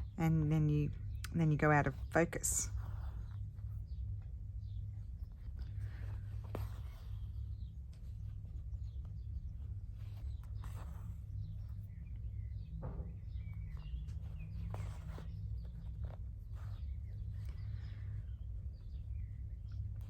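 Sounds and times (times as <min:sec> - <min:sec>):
needle and thread through fabric: 0:00.0 - 0:20.0
steady low hum: 0:00.0 - 0:20.0.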